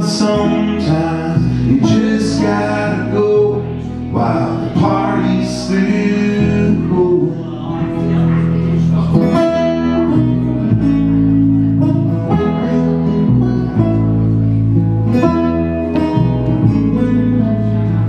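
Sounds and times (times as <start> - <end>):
acoustic guitar strumming: 0.0 - 18.0
double bass plucked: 0.0 - 18.0.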